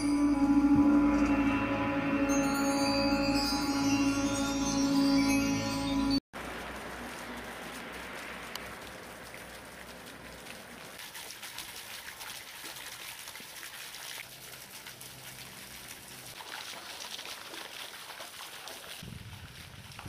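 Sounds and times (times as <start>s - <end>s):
fountain water splashing: 2.3s - 20.0s.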